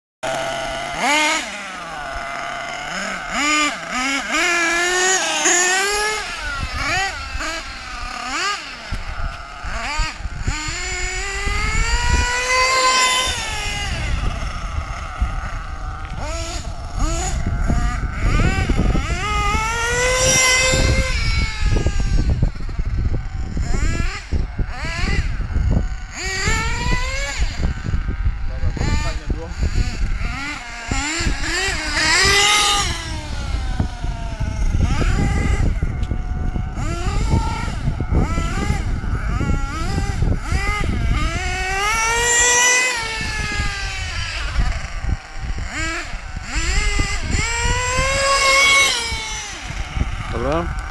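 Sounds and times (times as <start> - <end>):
nitro engine revving: 0.2 - 50.9.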